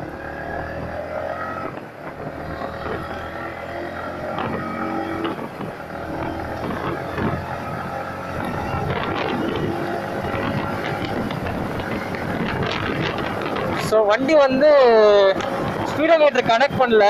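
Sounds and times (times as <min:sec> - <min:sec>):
motorcycle engine accelerating: 0:00.0 - 0:16.1
gear upshift: 0:00.0 - 0:17.0.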